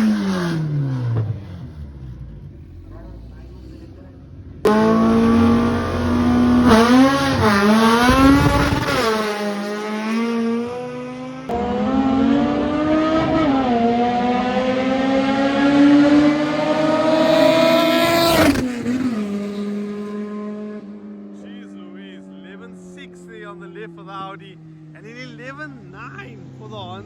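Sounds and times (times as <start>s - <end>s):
car engine at full throttle: 0.0s - 27.0s.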